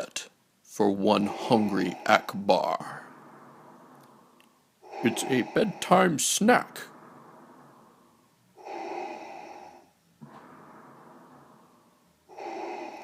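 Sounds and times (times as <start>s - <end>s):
heavy mechanical respirator breathing: 0.7s - 13.0s.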